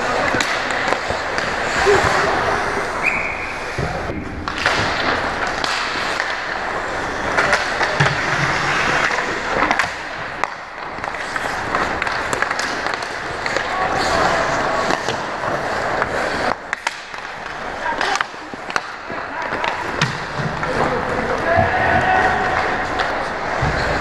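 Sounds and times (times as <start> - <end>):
skate blades scraping ice: 0.0 - 24.0
sticks and puck clacking: 0.0 - 24.0.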